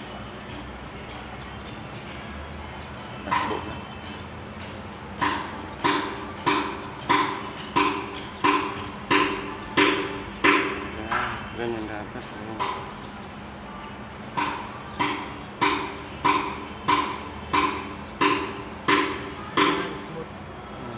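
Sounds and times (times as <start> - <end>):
ringing metal taps: 3.0 - 20.9.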